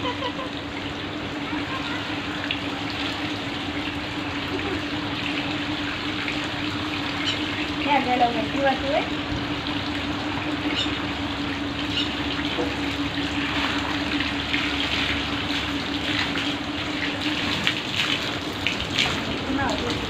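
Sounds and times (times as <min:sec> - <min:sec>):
steady low hum: 0:00.0 - 0:20.0
water pouring from hose: 0:00.0 - 0:20.0.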